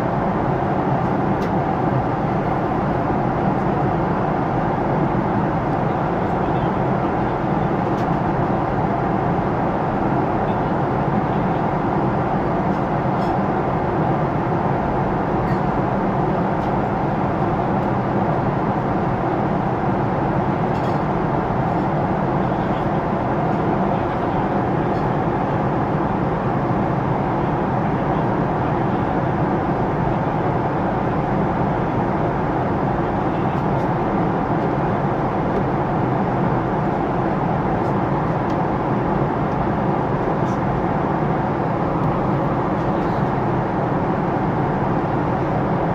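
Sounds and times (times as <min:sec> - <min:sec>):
airliner cabin roar: 0:00.0 - 0:45.9.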